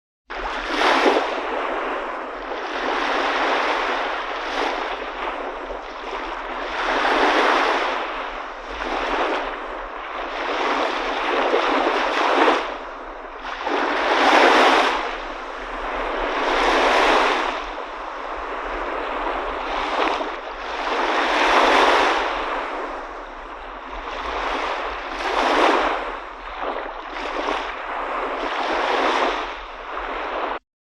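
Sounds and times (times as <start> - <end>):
sea waves breaking: 0.3 - 30.6.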